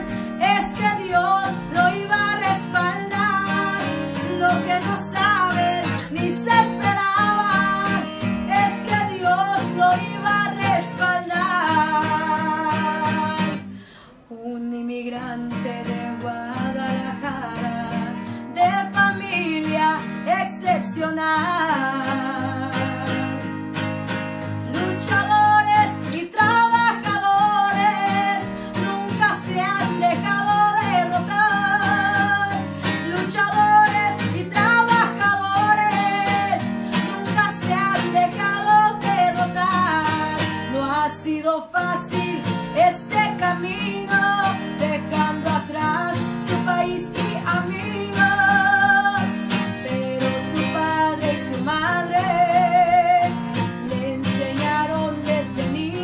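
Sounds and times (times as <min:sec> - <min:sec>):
person singing with vibrato: 0:00.0 - 0:23.6, 0:24.4 - 0:56.0
strummed acoustic guitar: 0:00.0 - 0:56.0.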